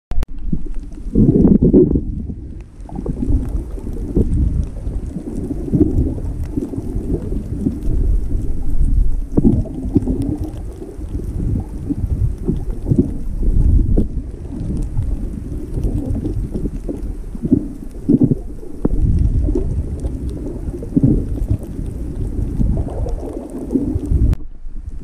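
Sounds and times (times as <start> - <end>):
muffled underwater water rumble: 0.1 - 25.0.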